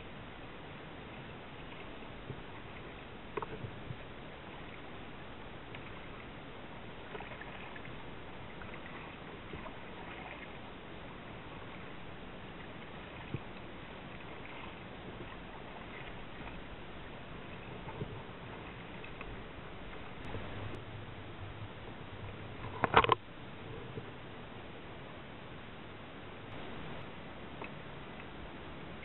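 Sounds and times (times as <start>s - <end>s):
water lapping against kayak hull: 0.0s - 24.5s.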